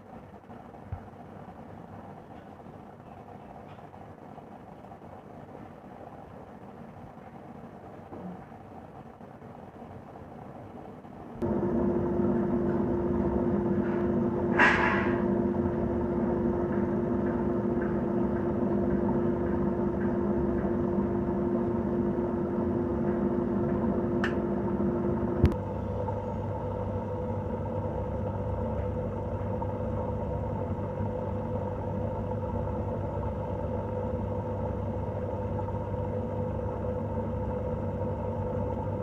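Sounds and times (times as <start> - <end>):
aquarium pump humming: 0.0 - 39.0.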